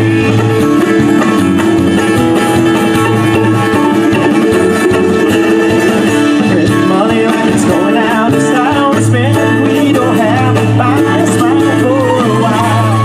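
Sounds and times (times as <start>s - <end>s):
bass: 0.0s - 13.0s
drums: 0.0s - 13.0s
strummed acoustic guitar: 0.0s - 13.0s
wavering lead melody: 0.0s - 13.0s.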